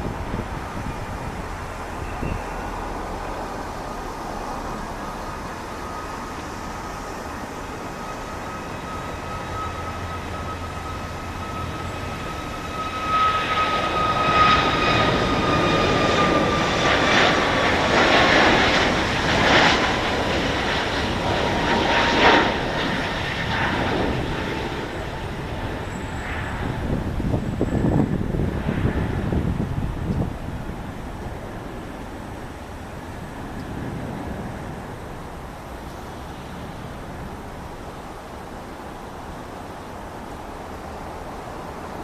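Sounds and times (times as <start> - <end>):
jet engine crackling roar: 0.0 - 42.0
jet engine whine: 0.0 - 42.0.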